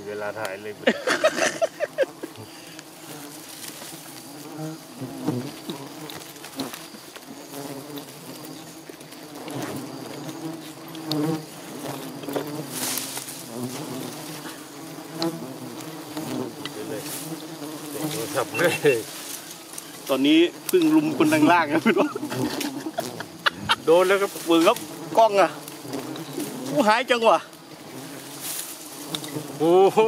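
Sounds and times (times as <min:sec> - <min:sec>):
single bee droning close: 0:00.0 - 0:30.0
swarm of bees buzzing: 0:00.0 - 0:30.0.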